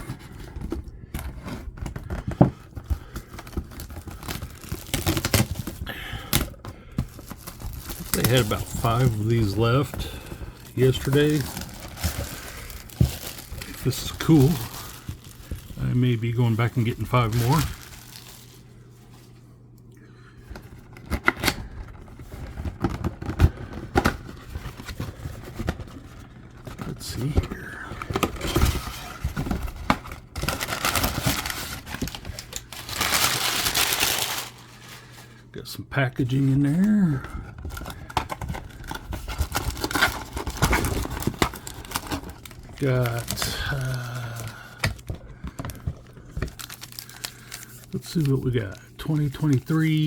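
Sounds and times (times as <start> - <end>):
cardboard box rustling: 0.0 - 18.6, 20.6 - 35.2, 36.3 - 50.0.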